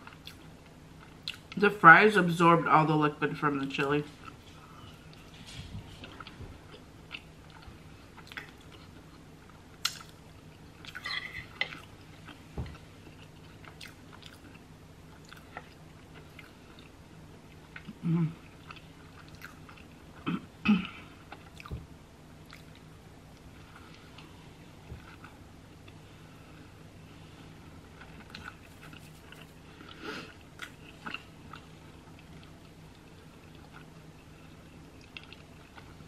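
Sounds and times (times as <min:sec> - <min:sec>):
soft wet chewing: 0:00.0 - 0:01.7, 0:04.0 - 0:20.3, 0:21.0 - 0:36.0.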